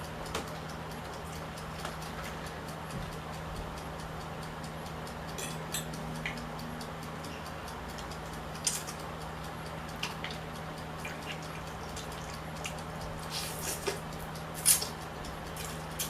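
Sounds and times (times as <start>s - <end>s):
faint ticking: 0.0s - 16.0s
low hum: 0.0s - 16.0s.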